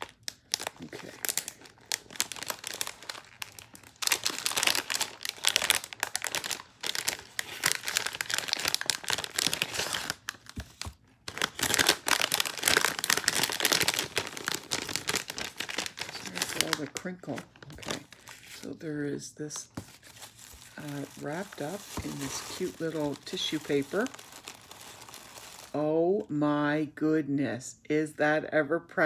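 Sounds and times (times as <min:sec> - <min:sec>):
paper packaging crinkling: 0:00.0 - 0:18.8, 0:19.5 - 0:25.8.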